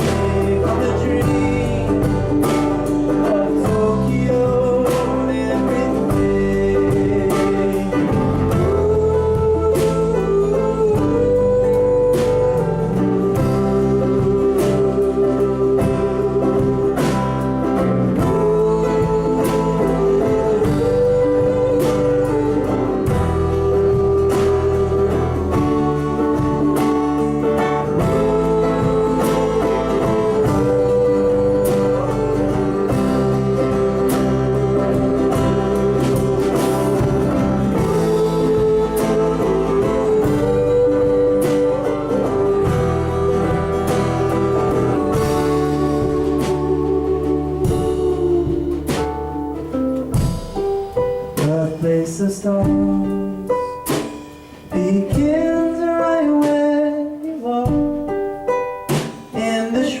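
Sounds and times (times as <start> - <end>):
live band playing instrumental: 0.0 - 60.0.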